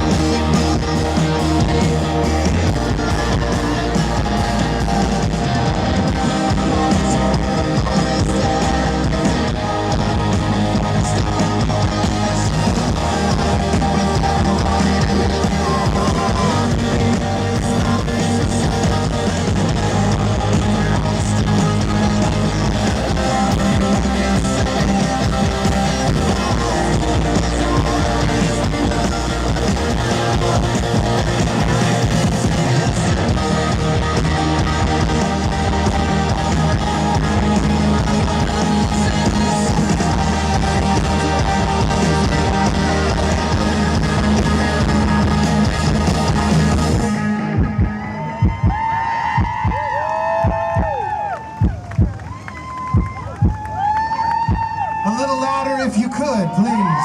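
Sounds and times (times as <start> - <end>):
live instrumental rock music: 0.0 - 53.2.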